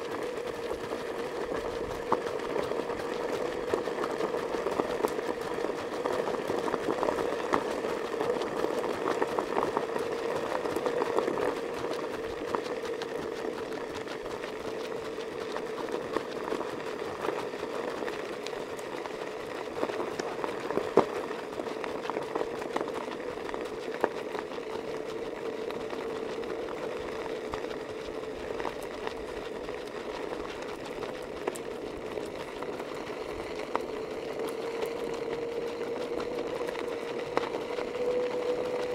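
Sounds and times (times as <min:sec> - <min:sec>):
vehicle motor hum: 0:00.0 - 0:38.9.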